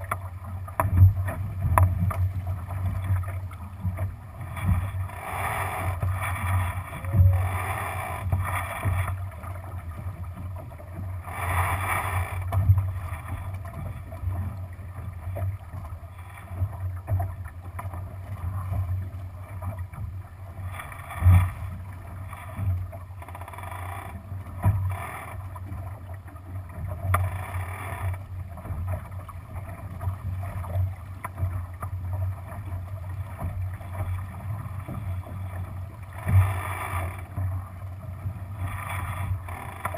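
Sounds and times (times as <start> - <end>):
low steady rumble: 0.0 - 39.9
water splashing along hull: 0.0 - 39.9.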